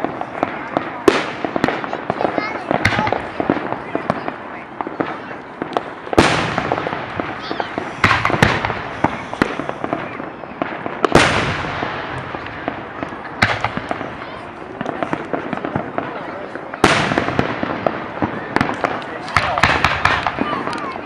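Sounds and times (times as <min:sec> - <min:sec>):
crackling pops: 0:00.0 - 0:16.1, 0:16.7 - 0:21.0
fireworks exploding with bangs: 0:00.0 - 0:21.0.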